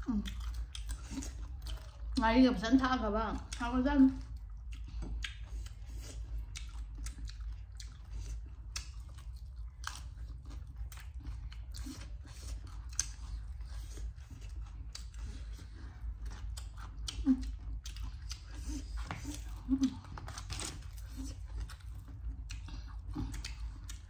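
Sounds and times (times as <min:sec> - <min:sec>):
crunchy food chewing: 0:00.0 - 0:02.6, 0:03.4 - 0:24.0.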